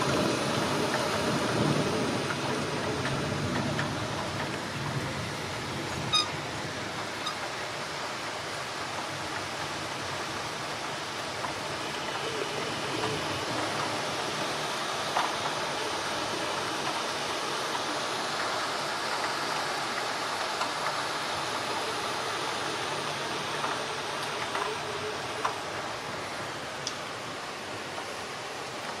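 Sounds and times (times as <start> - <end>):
heavy rain on trees: 0.0 - 29.0.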